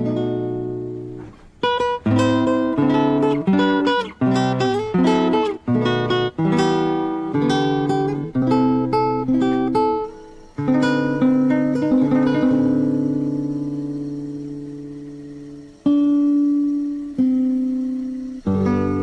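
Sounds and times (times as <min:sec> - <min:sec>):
plucked string instrument chords: 0:00.0 - 0:19.0.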